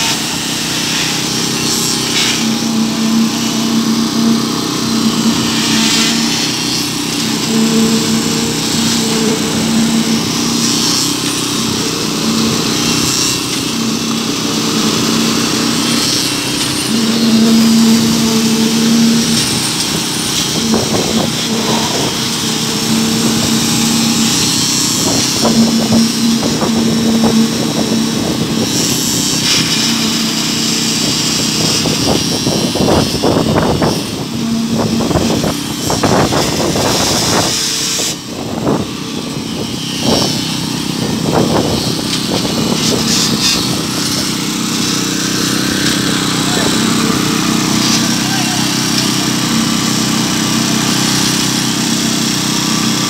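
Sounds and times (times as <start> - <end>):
concrete vibrator engine drone: 0.0 - 53.0.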